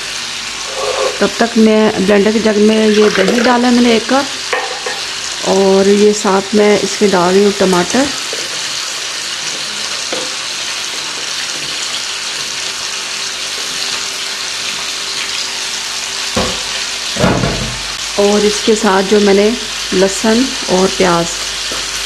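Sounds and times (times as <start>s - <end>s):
chicken frying in oil: 0.0s - 22.0s.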